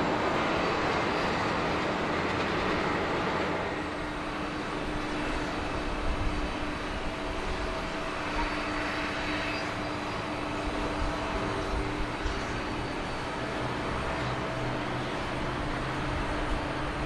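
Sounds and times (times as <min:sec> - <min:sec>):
jet engines at taxi power: 0:00.0 - 0:17.0.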